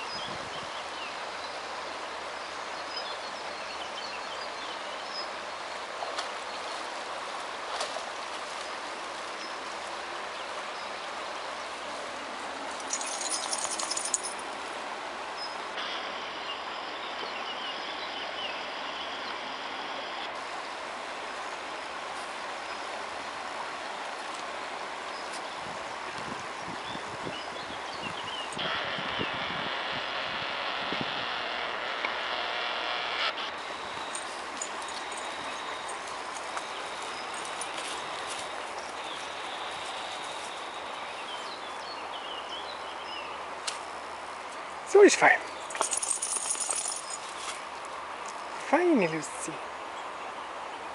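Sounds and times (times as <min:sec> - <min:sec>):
outdoor background hiss and rumble: 0:00.0 - 0:50.9.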